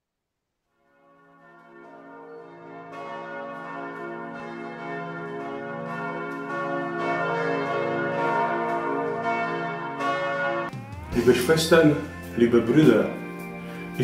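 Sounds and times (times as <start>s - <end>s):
church bells pealing: 0.9s - 14.0s.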